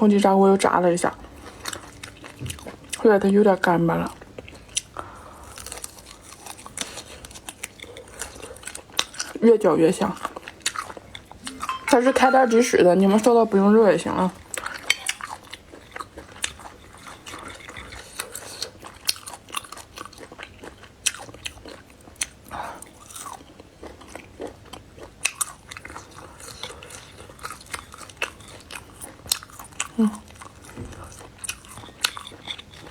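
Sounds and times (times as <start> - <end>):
person chewing crunchy food: 1.2 - 3.0, 4.0 - 9.4, 10.1 - 11.8, 14.5 - 32.9.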